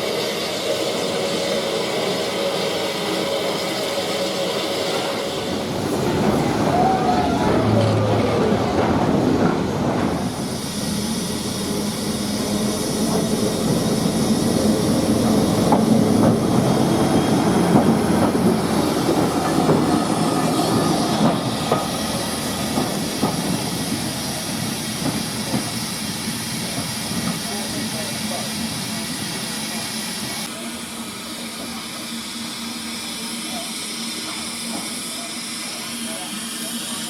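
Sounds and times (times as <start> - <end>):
train wheels clicking over rails: 0.2 - 30.4.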